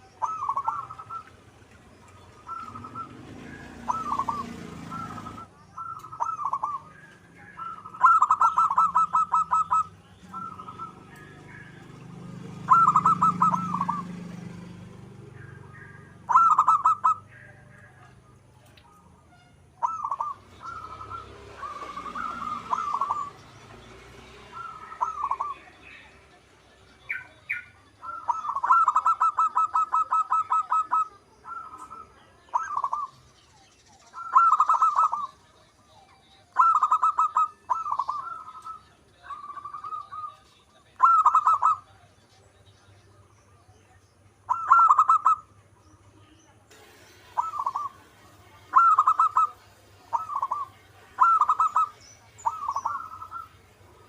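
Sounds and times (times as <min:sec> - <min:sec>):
dove cooing: 0:00.0 - 0:18.2, 0:19.8 - 0:26.1, 0:27.0 - 0:33.3, 0:34.0 - 0:35.5, 0:36.5 - 0:42.1, 0:44.5 - 0:45.6, 0:46.8 - 0:54.0.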